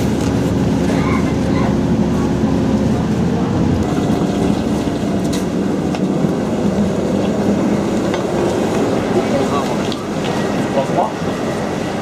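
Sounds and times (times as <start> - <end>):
vehicle rumble from inside: 0.0 - 10.4.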